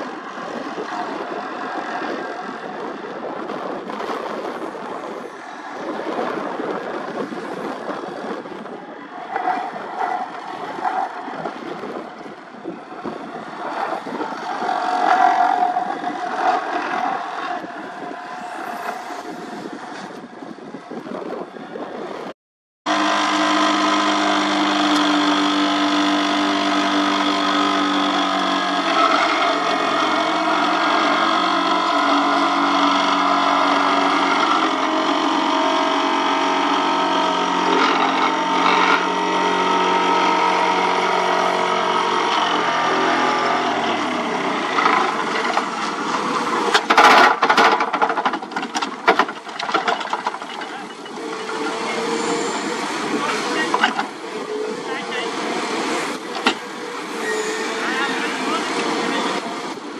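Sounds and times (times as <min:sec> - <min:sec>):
diesel engine: 0:00.0 - 0:59.9.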